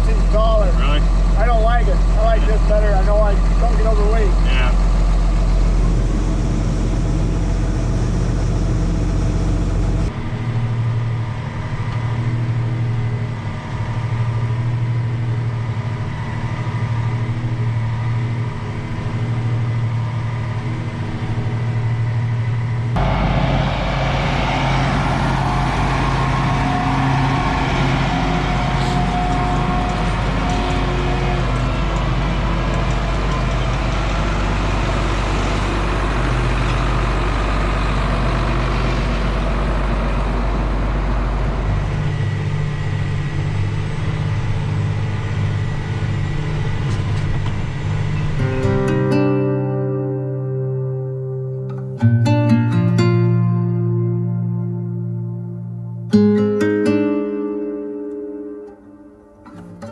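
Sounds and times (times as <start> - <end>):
heavy vehicle engines running: 0.0 - 59.9.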